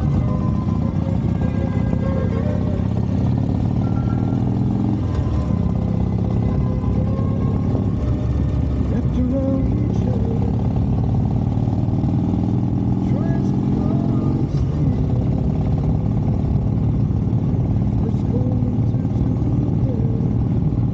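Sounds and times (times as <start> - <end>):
motorcycle engine rumbling: 0.0 - 20.9.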